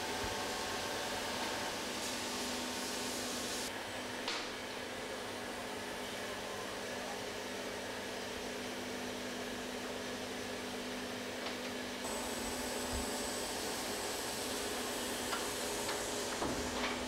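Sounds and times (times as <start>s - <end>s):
machinery hum and hiss: 0.0s - 17.0s.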